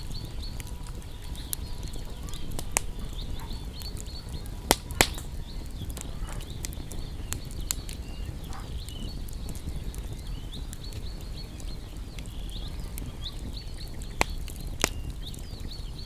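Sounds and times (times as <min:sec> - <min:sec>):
small birds chirping: 0:00.0 - 0:16.0
wood fire crackling and popping: 0:00.0 - 0:16.0.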